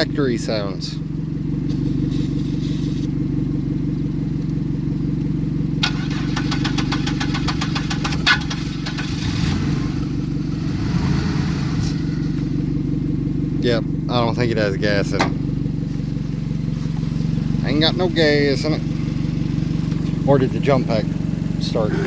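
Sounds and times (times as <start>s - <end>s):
car engine cranking: 1.1s - 22.0s.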